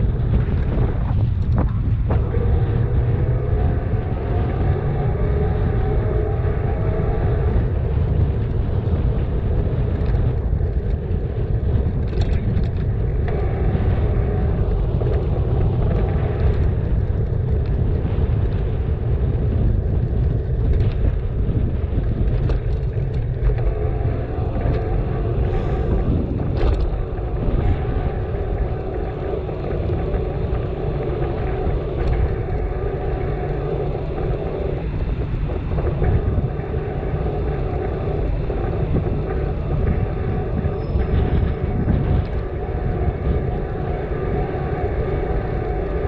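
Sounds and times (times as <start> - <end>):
faint road traffic: 0.0 - 46.0
wind rush on microphone: 0.0 - 46.0
bicycle clicks and knocks: 7.4 - 46.0.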